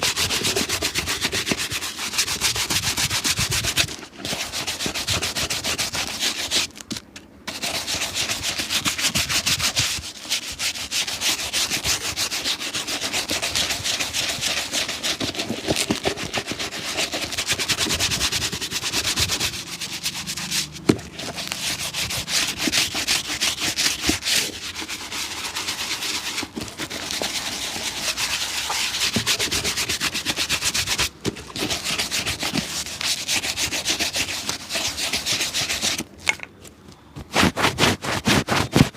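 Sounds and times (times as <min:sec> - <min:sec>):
hand rubbing a shoe: 0:00.0 - 0:06.8, 0:07.5 - 0:36.1, 0:37.0 - 0:38.9.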